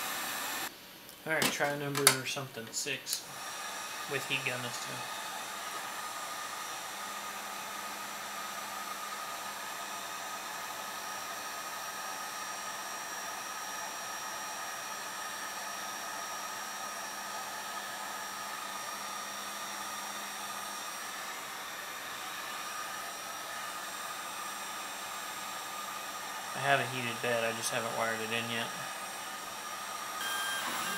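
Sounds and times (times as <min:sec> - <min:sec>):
heat gun blowing air: 0:00.0 - 0:00.7, 0:03.1 - 0:30.9.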